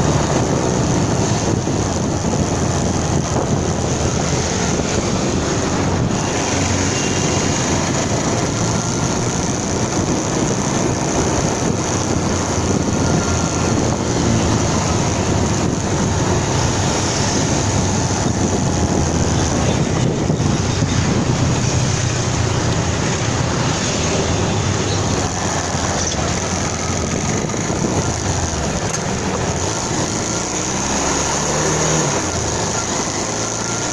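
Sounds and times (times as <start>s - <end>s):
motorcycle engine riding: 0.0s - 33.9s
traffic: 0.0s - 33.9s.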